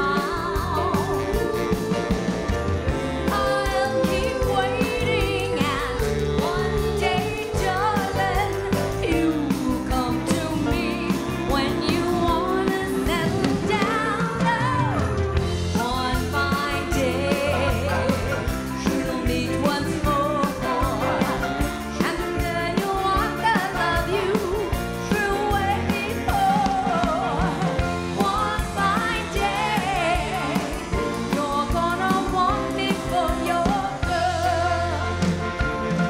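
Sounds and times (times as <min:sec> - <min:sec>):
drums: 0:00.0 - 0:36.0
keyboards: 0:00.0 - 0:36.0
woman singing lead: 0:00.0 - 0:36.0.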